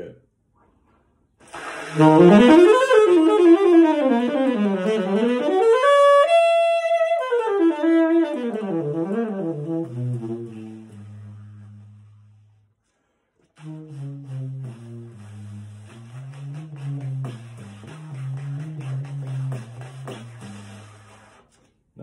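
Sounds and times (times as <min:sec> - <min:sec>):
saxophone melody: 0:01.4 - 0:12.7, 0:13.5 - 0:21.5.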